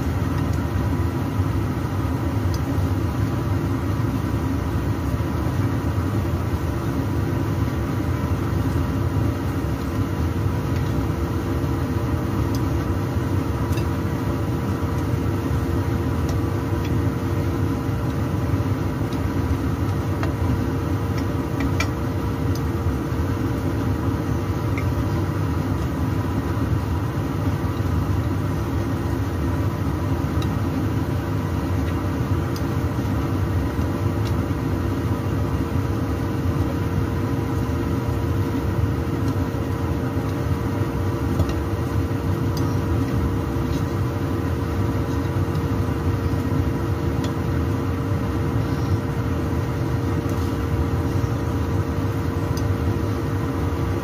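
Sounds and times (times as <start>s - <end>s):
mechanical hum with tones: 0.0s - 54.0s.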